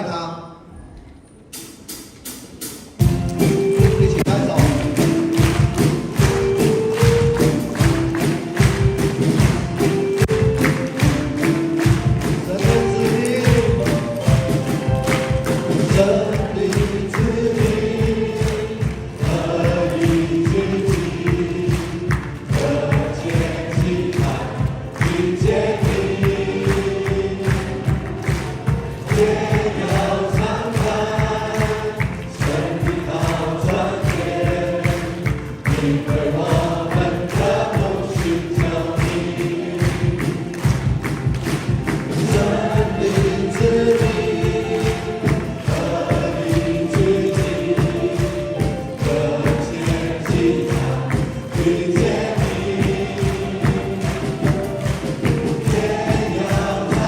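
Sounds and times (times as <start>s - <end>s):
band with steady beat: 1.5s - 57.0s
choir singing praise song: 3.0s - 57.0s.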